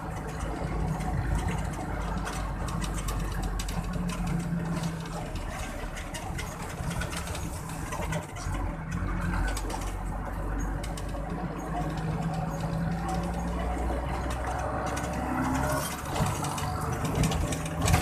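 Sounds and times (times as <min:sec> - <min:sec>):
road and wind noise: 0:00.0 - 0:18.0
vehicle engine running: 0:00.0 - 0:18.0.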